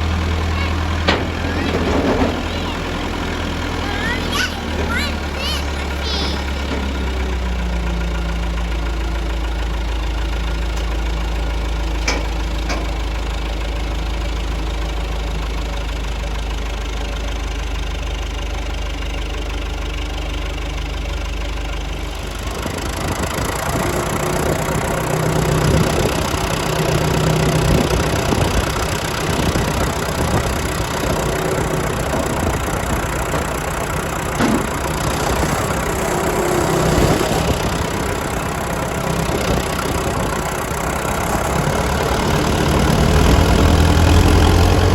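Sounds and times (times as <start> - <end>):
engine idling and revving: 0.0 - 44.9.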